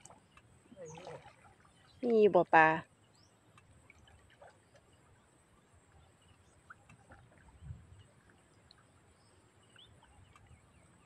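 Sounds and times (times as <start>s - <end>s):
water sloshing from wading: 0.0s - 11.0s.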